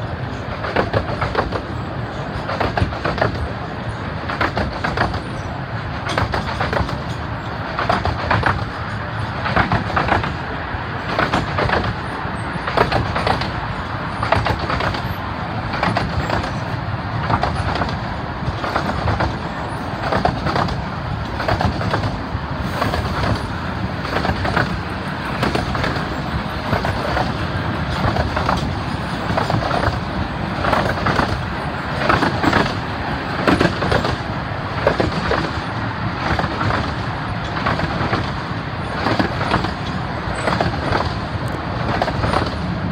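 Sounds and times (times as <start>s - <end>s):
train carriages rumbling and rattling: 0.0s - 42.9s
wheels clacking on rails: 0.0s - 42.9s.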